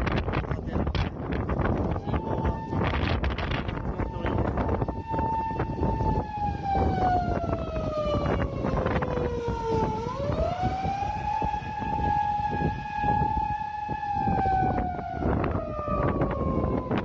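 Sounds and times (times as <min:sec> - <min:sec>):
siren wailing: 0:01.6 - 0:17.0.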